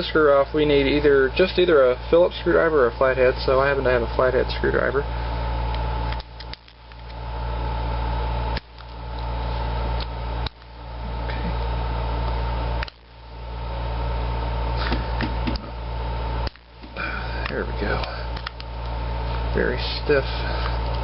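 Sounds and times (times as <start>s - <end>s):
air conditioner hum and whine: 0.0s - 21.0s.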